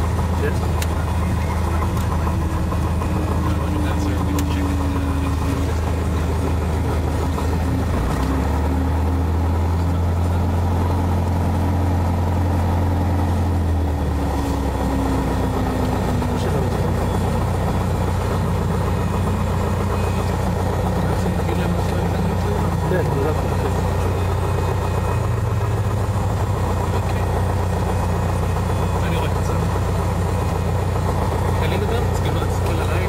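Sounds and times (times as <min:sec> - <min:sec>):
airplane engine droning in cabin: 0:00.0 - 0:33.0.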